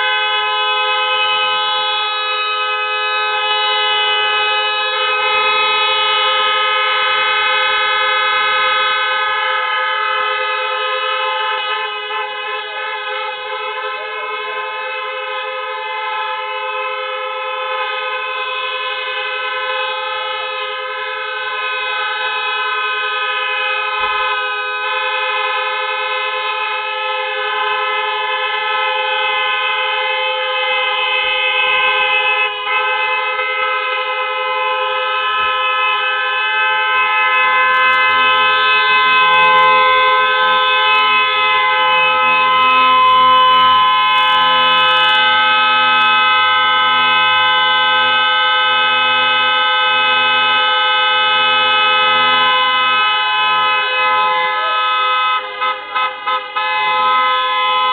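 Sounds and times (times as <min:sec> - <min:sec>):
car horns honking together: 0:00.0 - 0:57.9.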